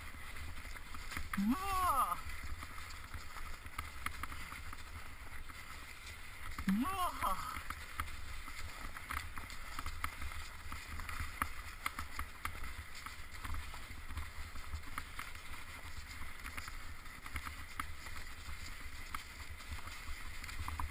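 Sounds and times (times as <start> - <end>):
bicycle rumbling on trail: 0.0 - 1.4, 2.2 - 6.7, 7.5 - 20.9.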